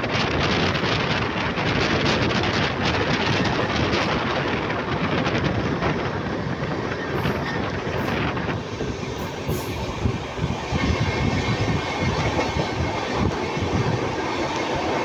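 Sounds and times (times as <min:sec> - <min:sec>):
train wheels on rail: 0:00.0 - 0:15.0
wind on microphone: 0:00.0 - 0:15.0.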